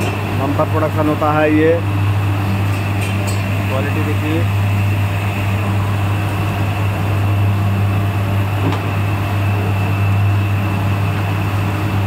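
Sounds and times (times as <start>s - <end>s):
machine motor hum: 0.0s - 12.0s.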